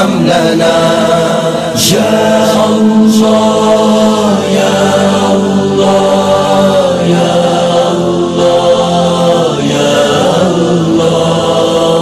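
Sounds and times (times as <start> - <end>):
voices chanting held notes: 0.0 - 12.0.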